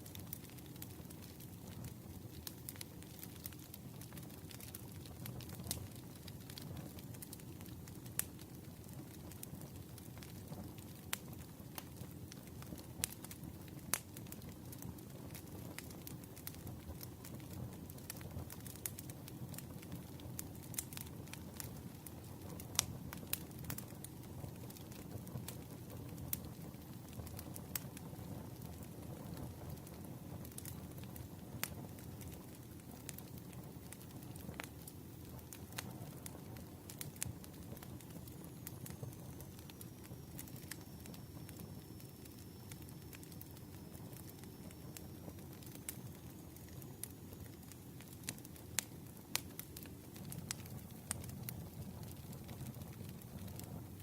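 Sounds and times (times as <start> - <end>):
campfire low rumble: 0.0 - 54.0
wood crackling and popping: 0.0 - 54.0.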